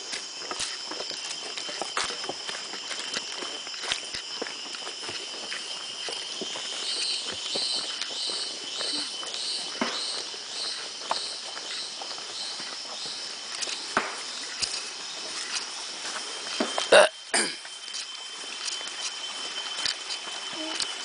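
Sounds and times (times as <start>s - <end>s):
footsteps on trail: 0.0s - 21.0s
high insect drone: 0.0s - 21.0s.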